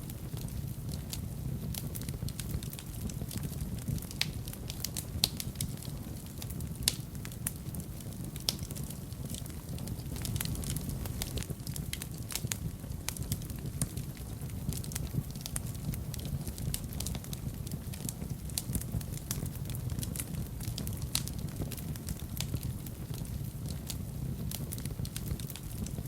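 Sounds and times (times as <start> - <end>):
fire crackling and popping: 0.0 - 26.0
fire rumbling: 0.0 - 26.0.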